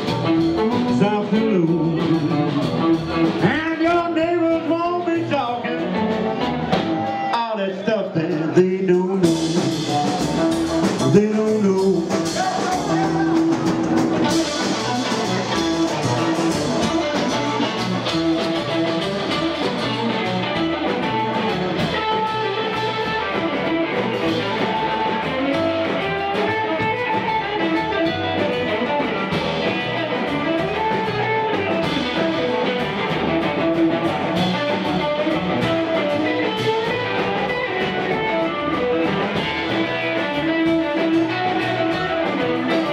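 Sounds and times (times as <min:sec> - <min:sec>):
drums: 0:00.0 - 0:42.9
electric guitar: 0:00.0 - 0:42.9
upright double bass: 0:00.0 - 0:42.9.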